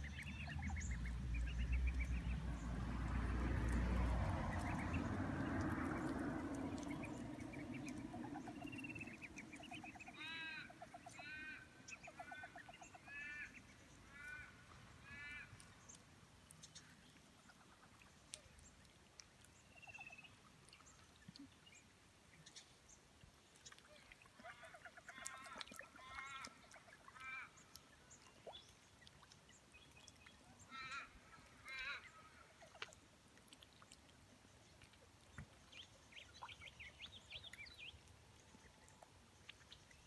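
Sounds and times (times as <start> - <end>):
waterbirds calling: 0.0 - 40.0.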